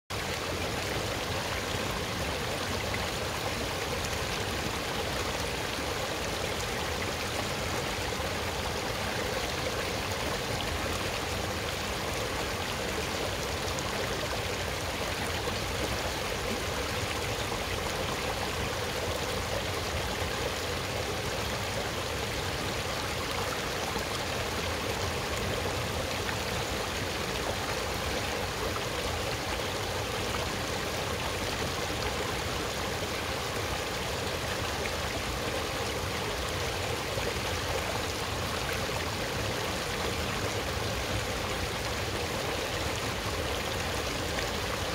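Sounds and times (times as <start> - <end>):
stream rushing over stones: 0.1 - 44.9.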